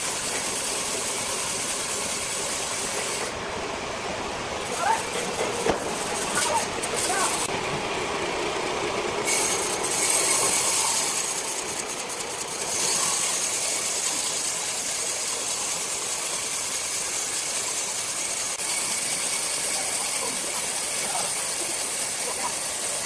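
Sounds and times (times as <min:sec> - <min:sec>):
circular saw cutting wood: 0:00.0 - 0:03.6, 0:04.5 - 0:23.0.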